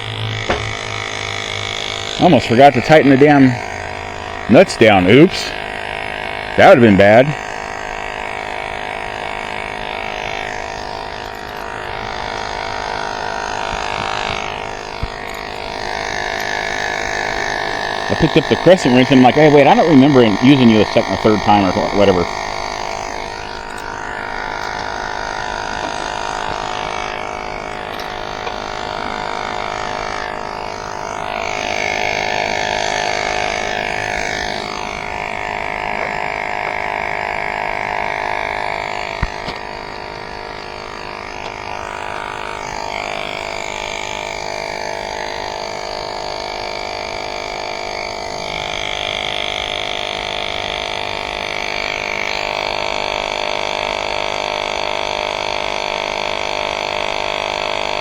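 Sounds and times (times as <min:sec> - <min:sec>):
hub motor whine: 0:00.0 - 0:58.0.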